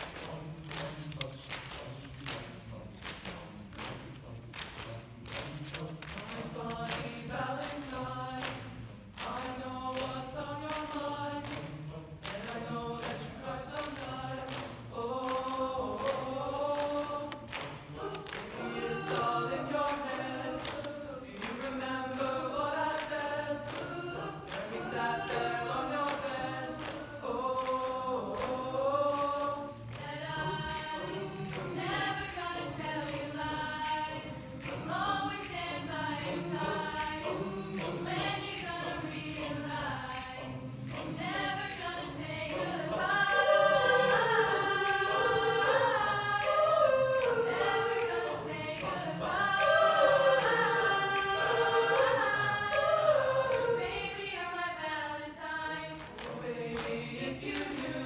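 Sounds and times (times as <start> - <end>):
choir singing in harmony: 0.0 - 58.0.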